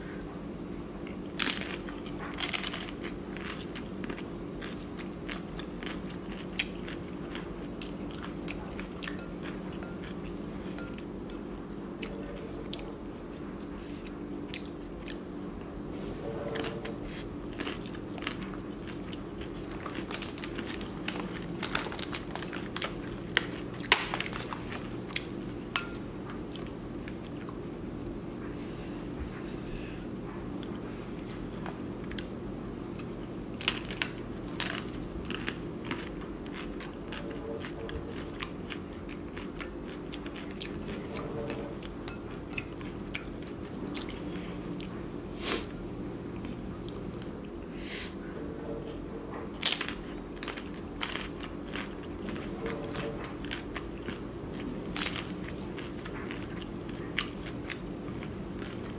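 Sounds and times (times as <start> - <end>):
chewing crunchy tostada: 0.1 - 15.7, 16.5 - 28.6, 30.4 - 47.8, 49.4 - 58.9
low hum: 7.4 - 58.9.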